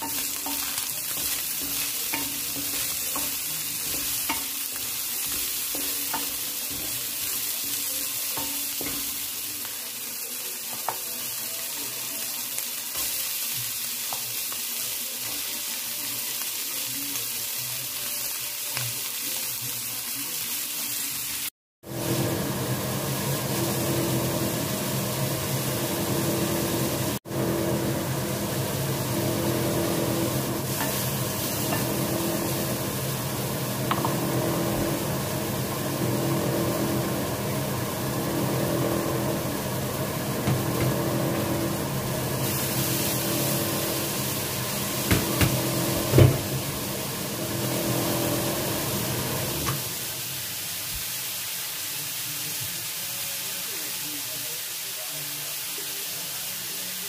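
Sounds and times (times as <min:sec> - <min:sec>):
meat and onion sizzling in a pan: 0:00.0 - 0:57.0.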